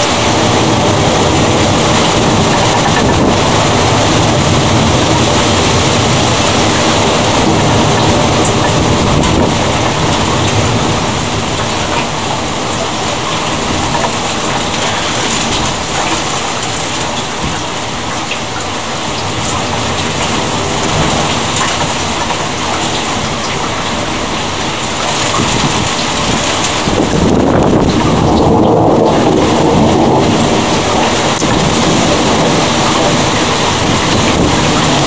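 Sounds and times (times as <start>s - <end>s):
heavy rain hissing: 0.0s - 35.0s
raindrops ticking: 0.0s - 35.0s.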